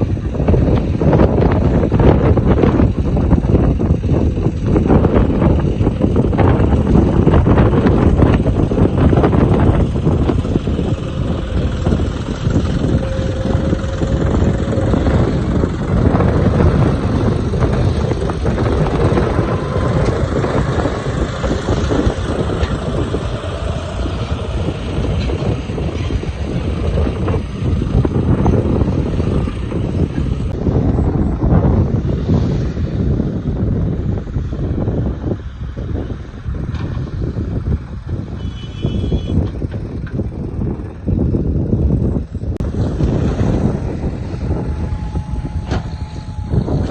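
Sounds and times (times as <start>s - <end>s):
heavy machine engine under load: 0.0s - 46.9s
wind buffeting microphone: 0.0s - 46.9s.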